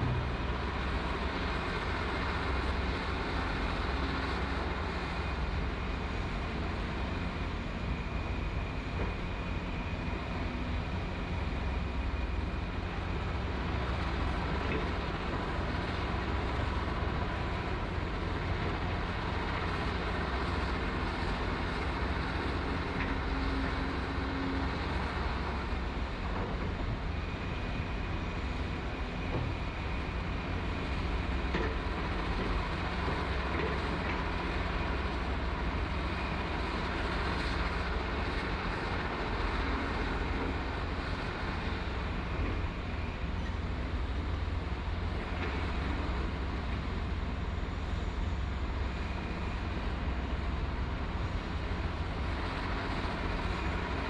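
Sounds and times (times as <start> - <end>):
diesel engines droning: 0.0 - 54.0.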